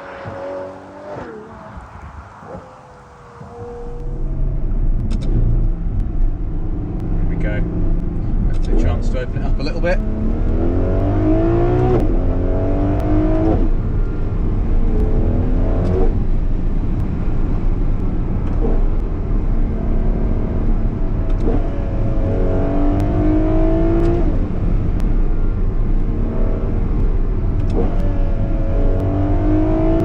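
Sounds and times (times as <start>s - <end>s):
car engine accelerating hard: 0.0s - 30.0s
low road rumble: 0.0s - 30.0s.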